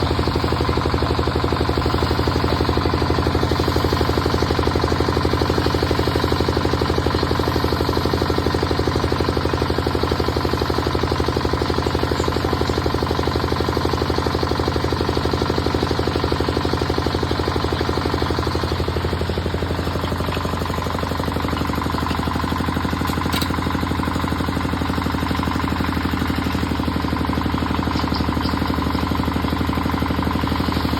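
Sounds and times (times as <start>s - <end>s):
construction machinery engine running: 0.0s - 30.9s.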